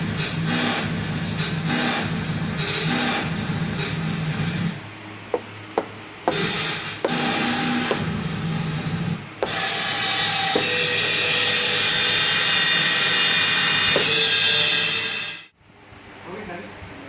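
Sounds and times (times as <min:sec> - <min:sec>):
drum pad hits with pitched tones: 0:00.0 - 0:04.8, 0:05.4 - 0:15.5.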